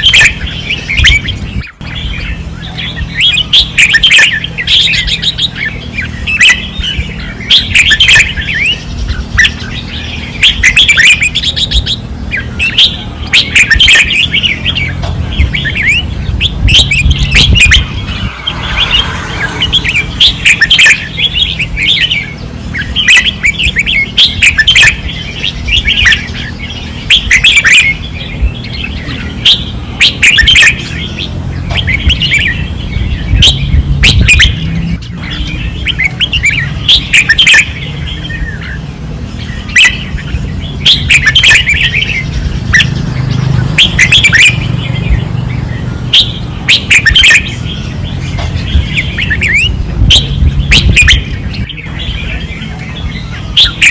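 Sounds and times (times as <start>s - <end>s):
bulbuls warbling: 0.0s - 53.9s.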